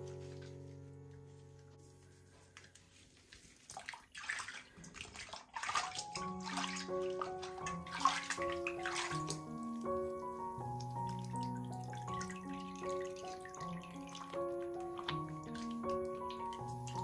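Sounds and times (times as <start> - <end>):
simple melody background music: 0.0 - 3.6, 5.6 - 17.0
water sloshing and splashing in sink: 2.6 - 17.0.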